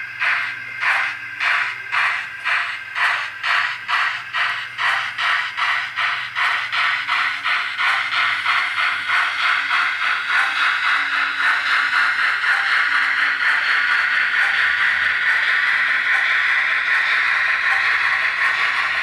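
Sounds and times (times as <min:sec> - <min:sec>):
model steam engine chuffing: 0:00.0 - 0:19.0.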